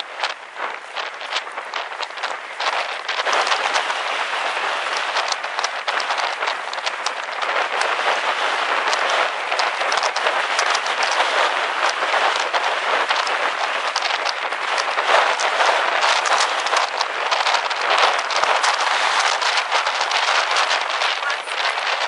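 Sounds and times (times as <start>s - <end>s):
heavy rain pattering: 0.0s - 22.0s.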